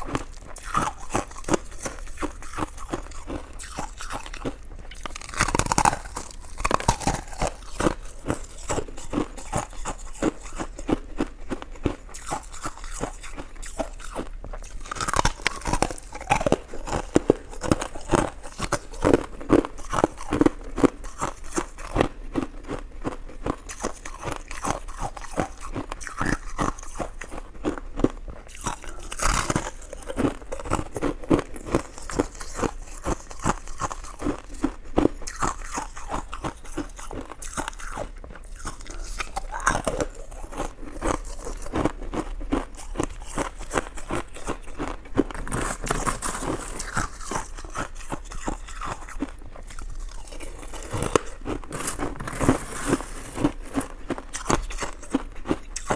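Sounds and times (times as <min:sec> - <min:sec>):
mouth clicks and smacks: 0:00.0 - 0:55.9
person chewing sticky rice cake: 0:00.0 - 0:55.9.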